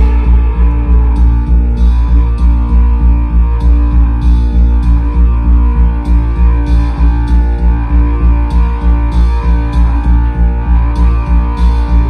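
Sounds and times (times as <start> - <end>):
deep subwoofer bass thumps: 0.0 - 12.0
guitar rock music: 0.0 - 12.0.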